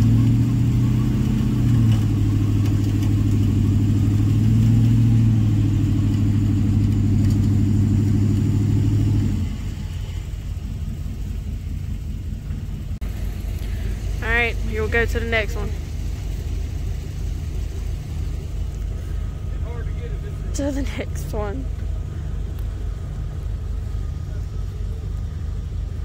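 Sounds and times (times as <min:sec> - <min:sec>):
truck engine revving and idling: 0:00.0 - 0:26.0.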